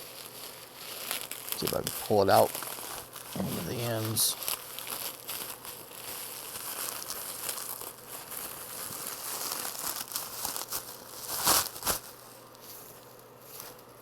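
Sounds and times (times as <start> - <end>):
loud packaging crackles: 0.0 - 14.0
packaging crinkling: 0.0 - 14.0.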